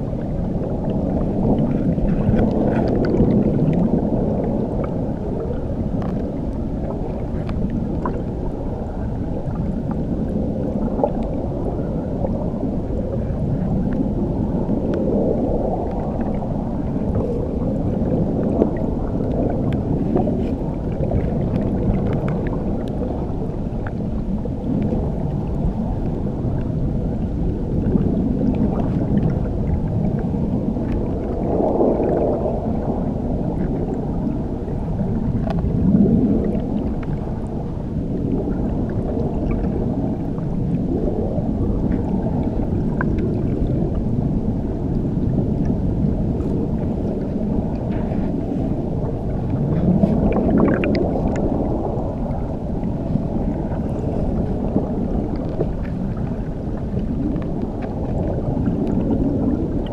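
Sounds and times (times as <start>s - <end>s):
faint ticks and bubbles: 0.0s - 59.9s
muffled underwater water roar: 0.0s - 59.9s.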